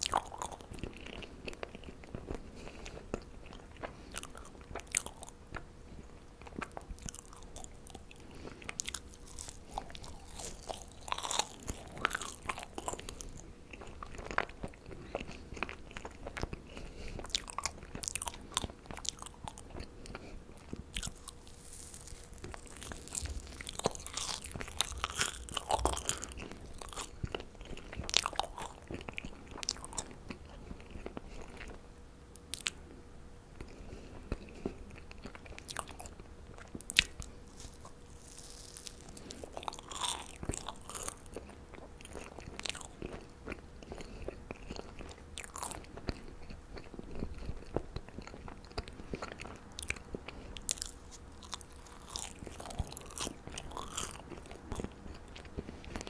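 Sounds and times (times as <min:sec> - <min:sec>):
crunchy bites: 0:00.0 - 0:02.4, 0:06.5 - 0:31.8, 0:33.6 - 0:56.0
chewing marshmallows: 0:00.0 - 0:32.8, 0:33.5 - 0:56.0.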